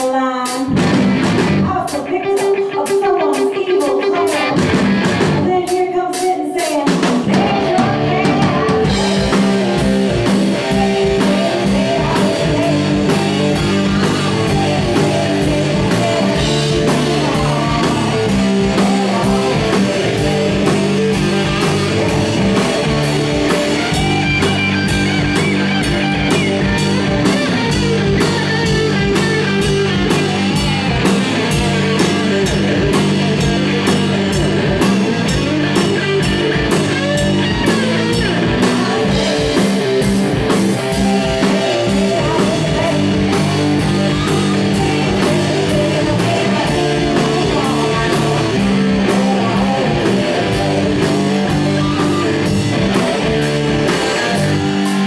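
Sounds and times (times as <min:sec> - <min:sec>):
drum kit beat: 0:00.0 - 0:55.0
electric guitar: 0:00.0 - 0:55.0.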